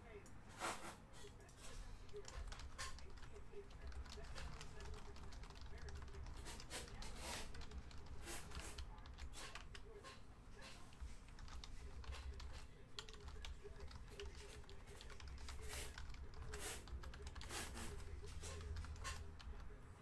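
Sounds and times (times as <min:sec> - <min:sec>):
typing on computer keyboard: 0:01.5 - 0:19.8.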